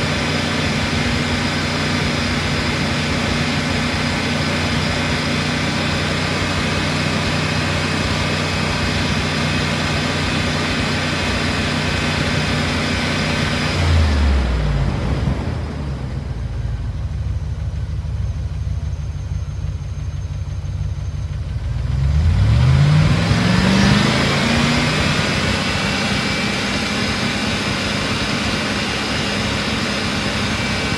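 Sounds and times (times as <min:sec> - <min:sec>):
car engine revving and idling: 0:00.0 - 0:30.9.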